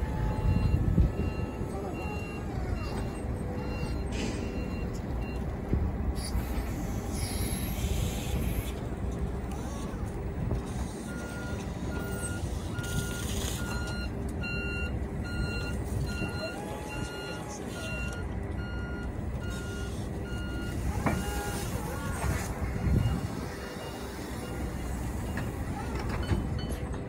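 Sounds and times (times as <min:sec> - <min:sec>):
reversing alarm beeping: 0:00.0 - 0:05.5, 0:10.6 - 0:26.9
machine running noise: 0:00.0 - 0:27.0.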